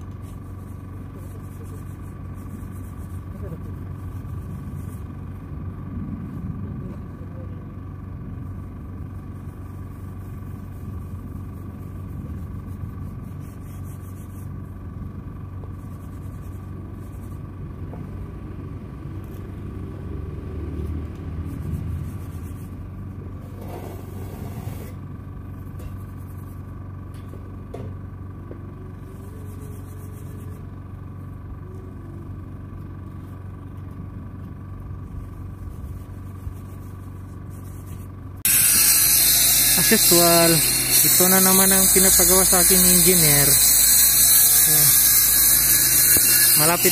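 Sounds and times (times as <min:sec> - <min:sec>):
engine running steadily: 0:00.0 - 0:46.9.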